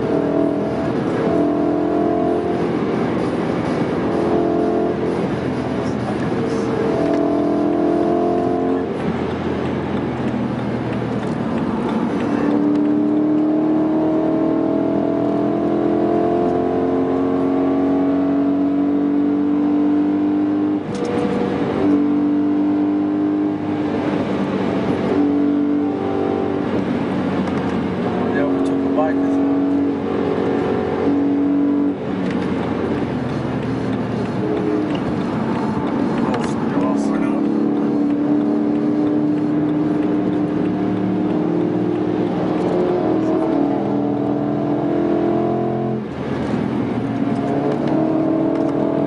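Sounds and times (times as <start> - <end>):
car engine accelerating: 0.0 - 49.0
road and wind noise: 0.0 - 49.0.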